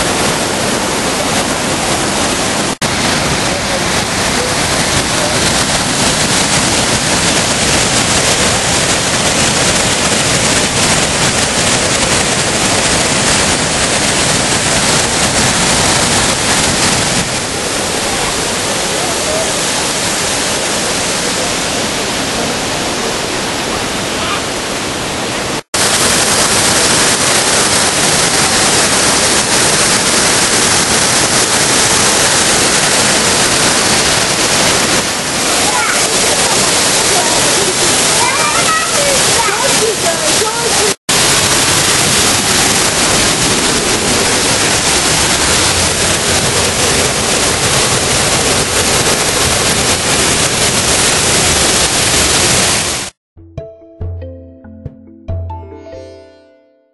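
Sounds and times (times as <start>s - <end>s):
waterfall rushing: 0.0s - 53.2s.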